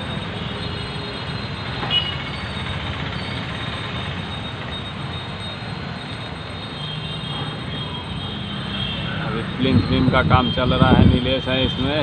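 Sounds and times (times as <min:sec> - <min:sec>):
construction site rumble: 0:00.0 - 0:09.9.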